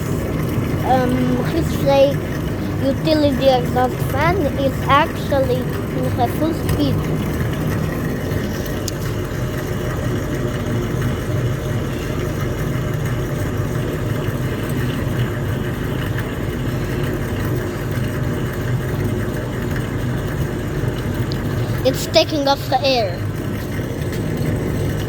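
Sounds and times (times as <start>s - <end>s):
exhaust fan humming: 0.0s - 25.0s.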